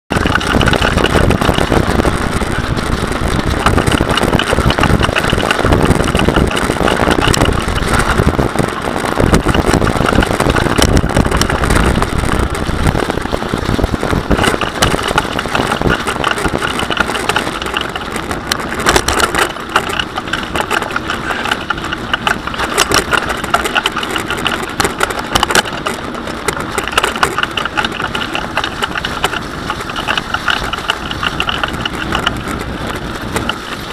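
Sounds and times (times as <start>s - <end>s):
bicycle tyres rumbling on trail: 0.1s - 33.9s
bike rattling: 0.1s - 33.9s
sharp clicks and knocks: 0.1s - 33.9s.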